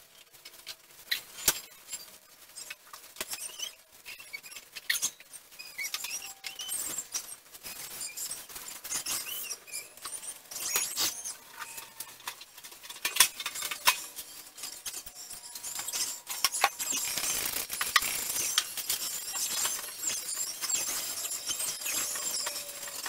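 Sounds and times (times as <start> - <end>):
cloth wiping and squeaking: 0.9 - 23.0.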